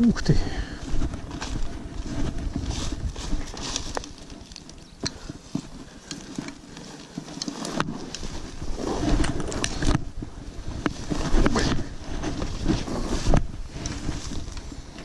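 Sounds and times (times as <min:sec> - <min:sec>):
tall grass rustling: 0:00.0 - 0:15.0
footsteps: 0:00.6 - 0:15.0.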